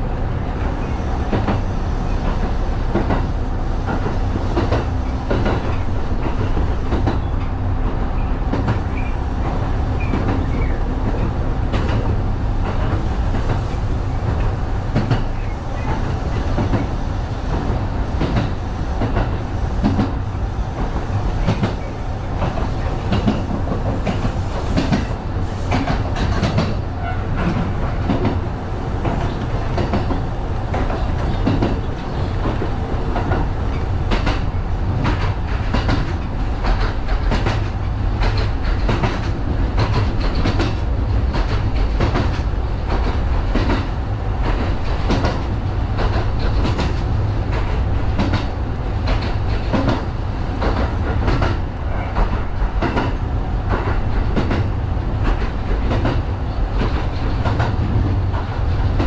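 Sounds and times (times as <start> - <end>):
train wheels rumbling: 0.0 - 59.0
wheels clacking over rail joints: 0.5 - 59.0.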